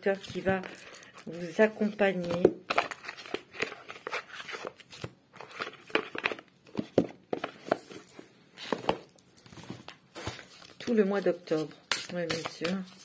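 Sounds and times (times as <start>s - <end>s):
cards being shuffled: 2.2s - 13.0s.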